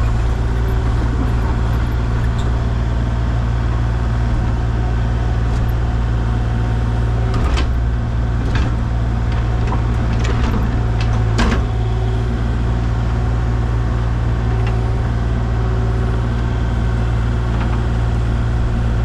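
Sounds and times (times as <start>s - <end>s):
machine engine droning: 0.0s - 19.0s.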